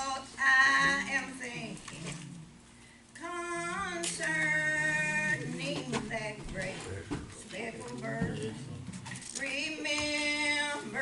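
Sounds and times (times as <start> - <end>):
woman singing a hymn: 0.0 - 2.2, 3.2 - 8.6, 9.3 - 11.0
lower voice singing: 0.0 - 2.5, 3.2 - 11.0.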